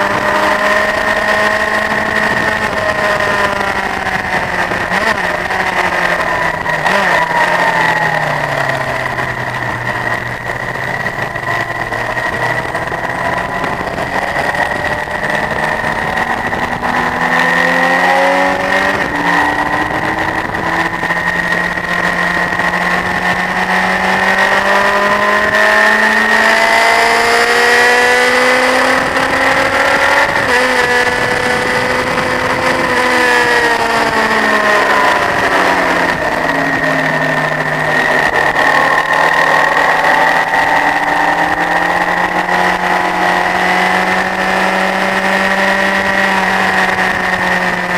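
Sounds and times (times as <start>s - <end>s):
motorcycle engine shifting gears: 0.0s - 47.9s.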